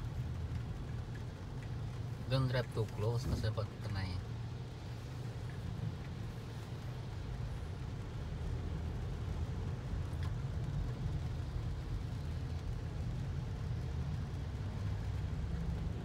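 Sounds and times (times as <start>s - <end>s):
car engine rumble inside cabin: 0.0s - 16.0s
road noise: 0.0s - 16.0s.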